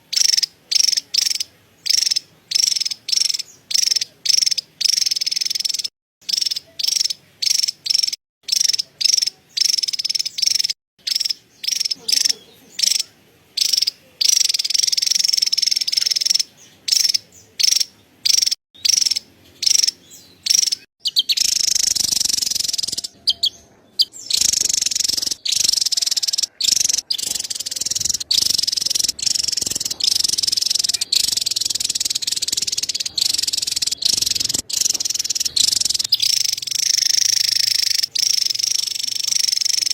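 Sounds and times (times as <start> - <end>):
bird scolding chatter: 0.0 - 39.9.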